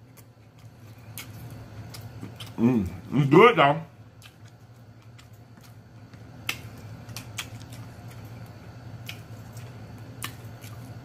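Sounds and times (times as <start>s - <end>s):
chewing with lip smacks: 0.0s - 3.1s, 4.1s - 11.0s
faint low hum: 0.0s - 11.0s.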